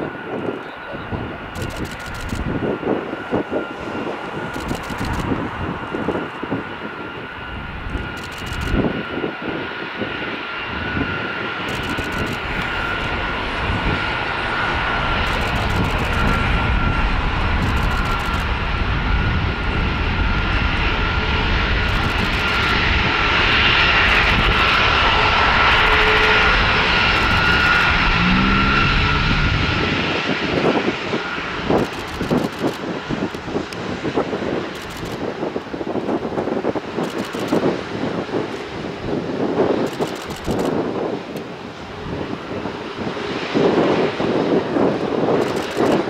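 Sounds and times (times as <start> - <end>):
jet engines roaring with whine: 0.0 - 46.0.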